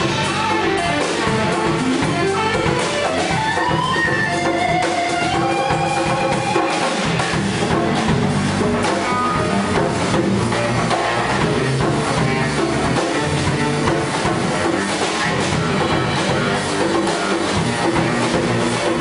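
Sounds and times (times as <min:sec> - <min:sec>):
congas: 0:00.0 - 0:19.0
electric guitar: 0:00.0 - 0:19.0
live instrumental band: 0:00.0 - 0:19.0.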